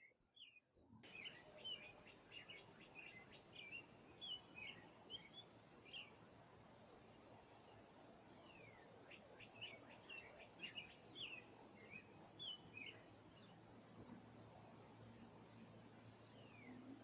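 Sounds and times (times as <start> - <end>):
faint steady hiss: 0.0 - 17.0
songbird chirps: 0.0 - 17.0.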